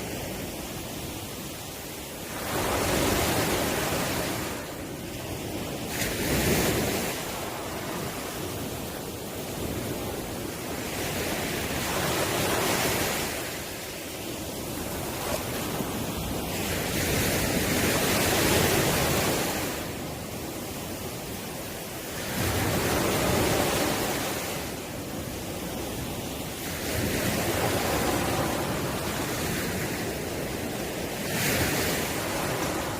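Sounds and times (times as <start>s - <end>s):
ocean waves breaking on shore: 0.0s - 32.9s.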